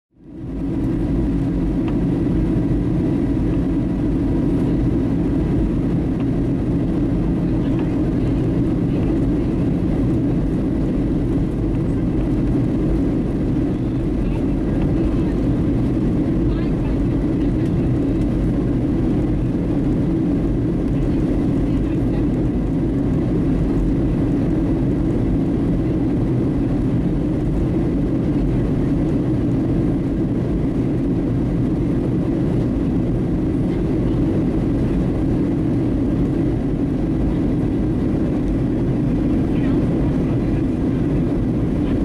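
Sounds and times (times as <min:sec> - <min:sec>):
jet engines roaring: 0:00.2 - 0:42.0.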